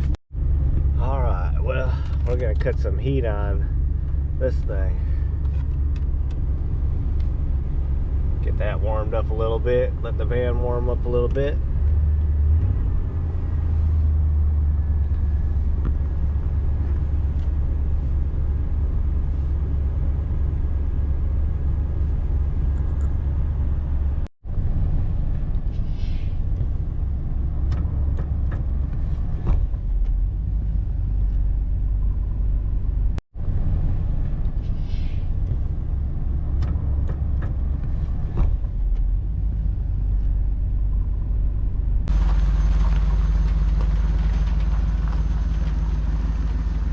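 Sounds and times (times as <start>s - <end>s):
van engine rumbling: 0.0s - 46.9s.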